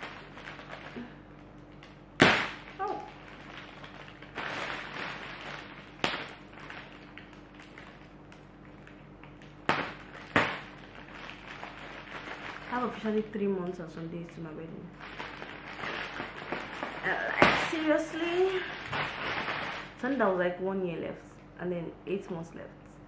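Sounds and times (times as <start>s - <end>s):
plastic wrapping rustling: 0.0s - 20.4s.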